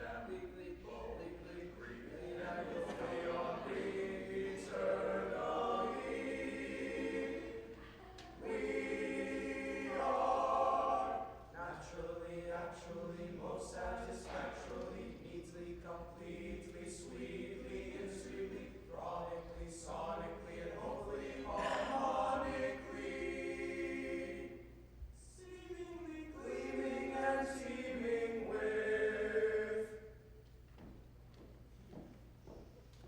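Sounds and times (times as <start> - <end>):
choir singing sustained chords: 0.0 - 30.4.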